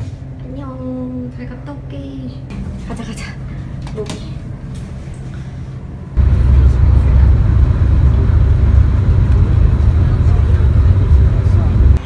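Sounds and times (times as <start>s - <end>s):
bus road and engine rumble: 0.0s - 12.0s
low steady hum: 0.0s - 12.0s.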